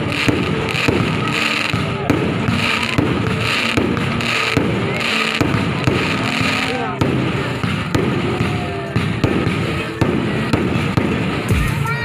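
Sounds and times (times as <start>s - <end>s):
crowd voices: 0.0s - 12.0s
fireworks popping and crackling: 0.0s - 12.0s.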